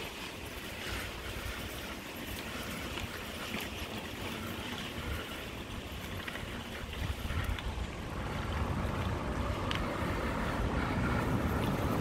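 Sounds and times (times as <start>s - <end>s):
bicycle ride rushing noise: 0.0s - 12.0s
wind buffeting microphone: 0.0s - 12.0s.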